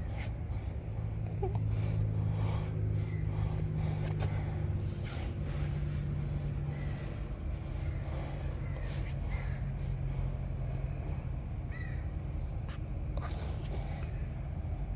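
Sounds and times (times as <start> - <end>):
low mechanical hum: 0.0 - 14.9
puppies snuffling: 0.0 - 14.9.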